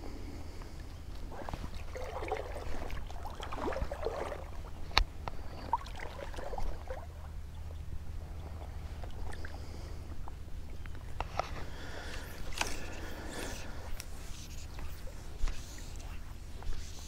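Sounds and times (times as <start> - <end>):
river water sloshing and gurgling: 0.7 - 17.0.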